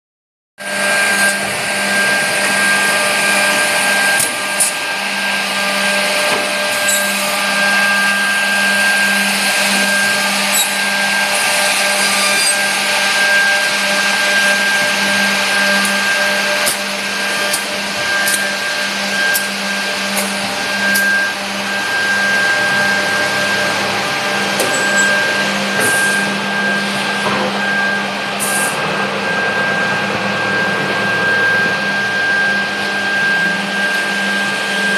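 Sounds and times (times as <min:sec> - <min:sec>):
constant high whine: 0:00.6 - 0:34.9
machine motor hum: 0:00.7 - 0:34.9.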